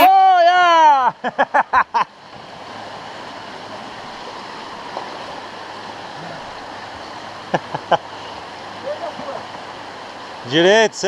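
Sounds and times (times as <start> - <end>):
river flowing over rocks: 2.1 - 11.0.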